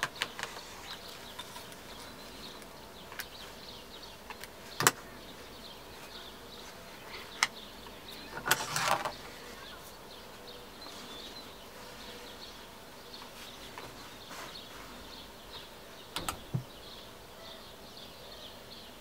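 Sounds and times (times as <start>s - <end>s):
faint bird chirps: 0.1s - 19.0s.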